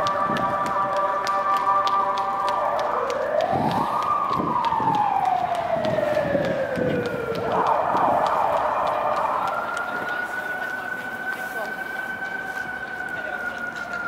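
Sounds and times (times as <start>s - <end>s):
emergency vehicle siren wailing: 0.0s - 14.0s.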